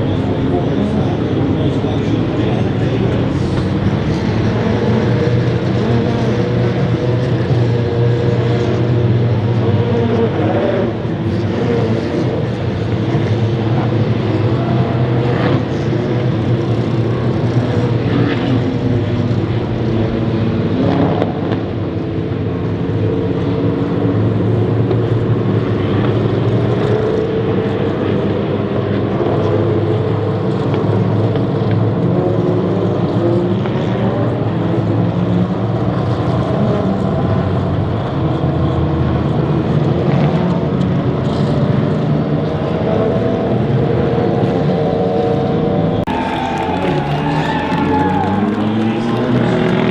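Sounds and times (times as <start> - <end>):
race car engines passing: 0.0 - 49.9.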